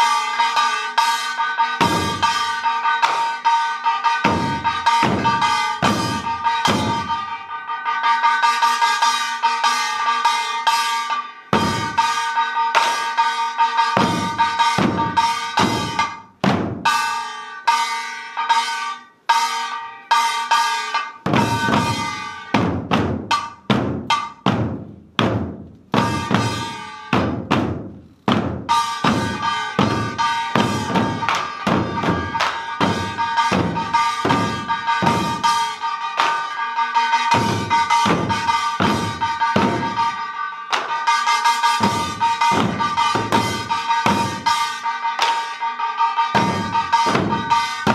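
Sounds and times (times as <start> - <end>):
barrel drums beating: 0.0 - 18.6, 20.1 - 47.9.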